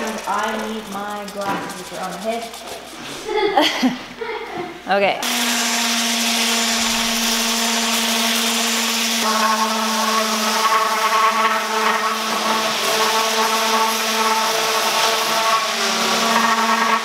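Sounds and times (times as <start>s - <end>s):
orbital sander running: 0.0s - 2.9s, 5.2s - 17.0s.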